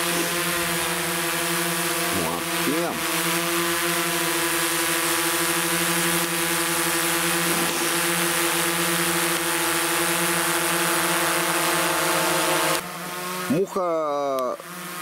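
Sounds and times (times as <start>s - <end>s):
drone propellers humming: 0.0s - 15.0s.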